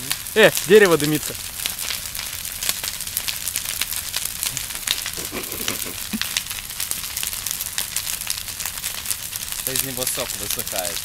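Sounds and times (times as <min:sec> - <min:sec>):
fire hissing: 0:00.0 - 0:11.0
large fire crackling and popping: 0:00.0 - 0:11.0.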